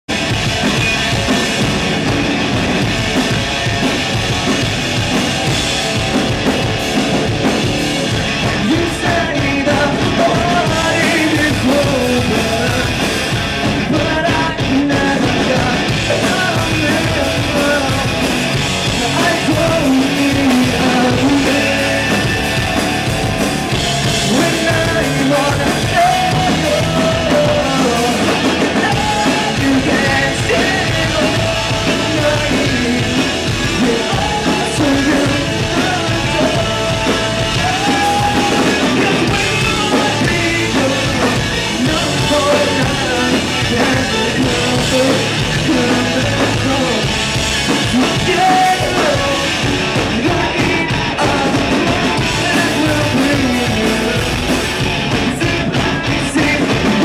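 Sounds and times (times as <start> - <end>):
live rock band playing: 0.0 - 57.0
person singing into a microphone: 7.5 - 57.0.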